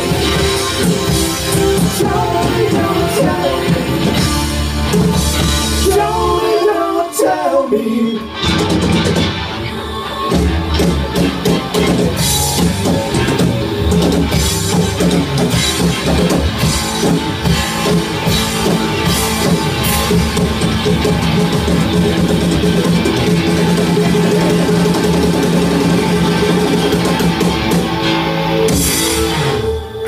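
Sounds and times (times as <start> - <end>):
drum kit: 0.0 - 6.9, 8.3 - 30.0
bass guitar: 0.0 - 30.0
electric guitar: 0.0 - 30.0.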